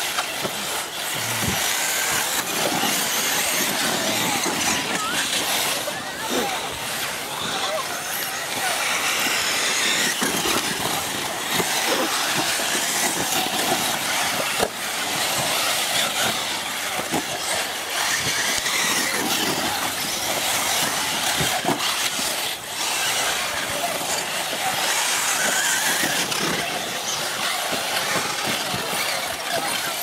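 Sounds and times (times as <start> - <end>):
rc car motors whining: 0.0 - 30.0.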